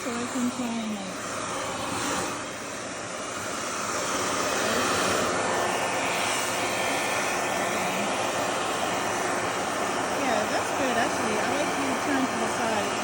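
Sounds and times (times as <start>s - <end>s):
hair dryer fan whoosh: 0.0s - 13.0s.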